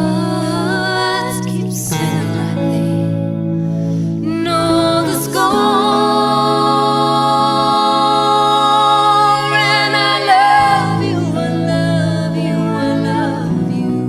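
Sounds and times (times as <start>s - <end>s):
low keyboard chords: 0.0s - 14.0s
person singing a ballad: 0.0s - 14.0s.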